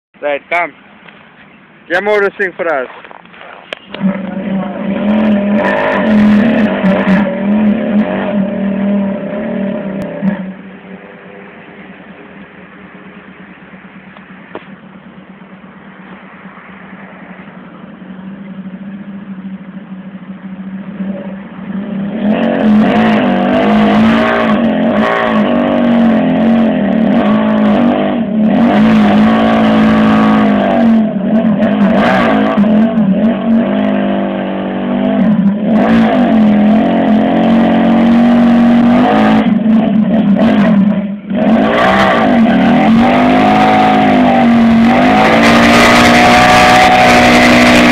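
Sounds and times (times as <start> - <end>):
motorcycle engine revving: 3.3 - 47.9.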